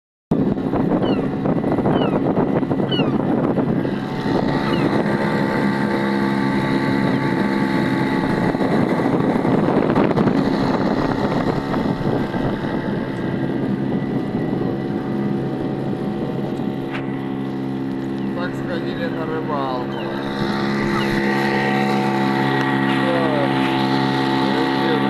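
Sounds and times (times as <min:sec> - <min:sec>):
outboard motor running: 0:00.3 - 0:25.0.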